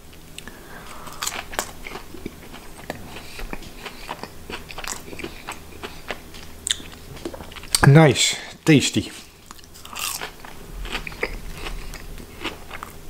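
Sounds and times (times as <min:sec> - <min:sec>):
chewing crunchy fried food: 0:00.1 - 0:07.8, 0:09.1 - 0:13.0.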